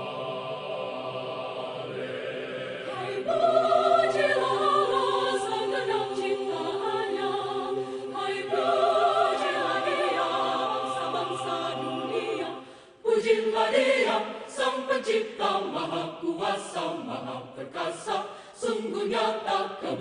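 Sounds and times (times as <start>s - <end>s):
mixed choir singing: 0.0s - 20.0s.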